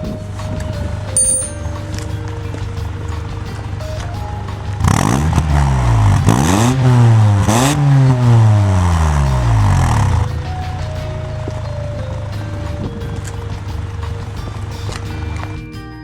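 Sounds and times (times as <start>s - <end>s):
car engine revving: 1.8s - 15.5s.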